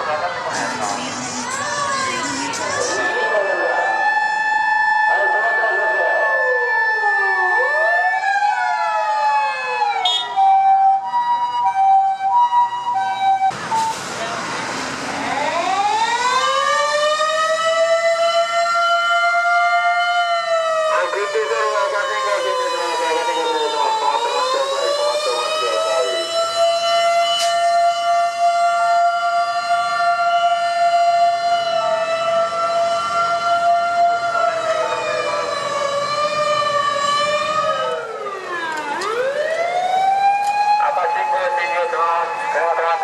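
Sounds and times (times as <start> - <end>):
electronic wail siren: 0.0 - 13.8, 15.1 - 43.0
two-tone high-low siren: 0.0 - 13.8, 15.2 - 43.0.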